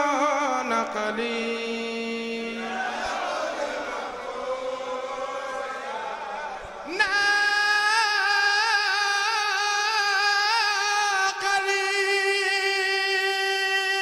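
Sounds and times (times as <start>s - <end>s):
solo voice singing a chant: 0.0s - 5.6s, 6.8s - 14.0s.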